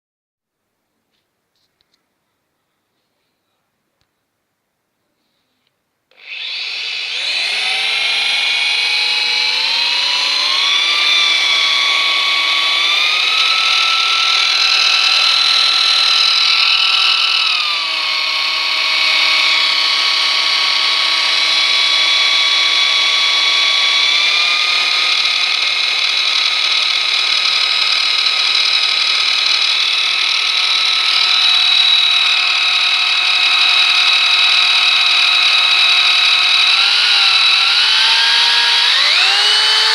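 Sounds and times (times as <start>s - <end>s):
electric drill motor: 6.1s - 39.9s
high whistle or grinding: 6.2s - 39.9s.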